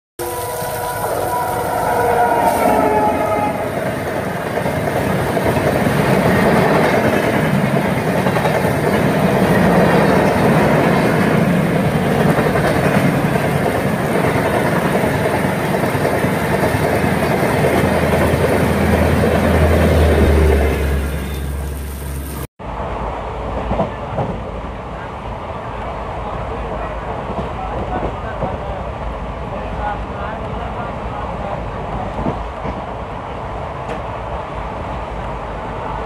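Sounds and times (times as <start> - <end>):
train passing at speed: 0.2 - 36.0.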